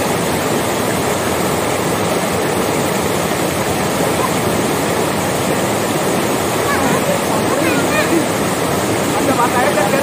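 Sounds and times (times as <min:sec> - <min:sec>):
waterfall pouring onto rocks: 0:00.0 - 0:10.0.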